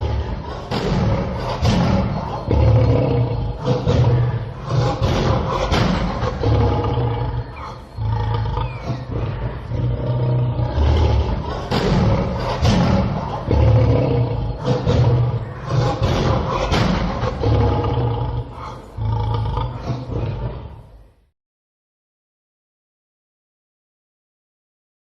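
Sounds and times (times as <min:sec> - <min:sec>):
lion roaring and grunting: 0:00.0 - 0:21.1.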